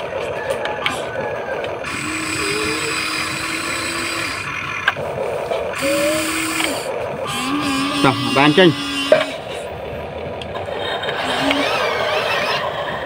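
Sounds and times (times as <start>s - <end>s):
electric motors whirring: 0.8s - 13.0s.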